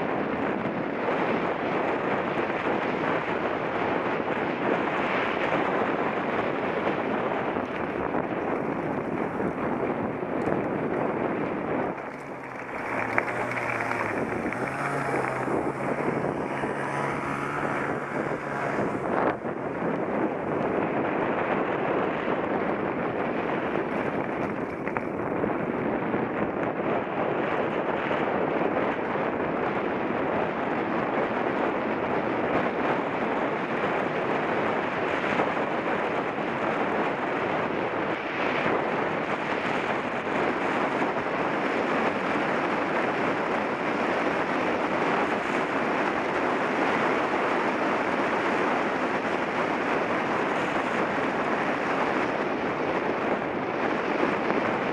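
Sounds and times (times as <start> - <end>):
wind noise on microphone: 0.0 - 54.9.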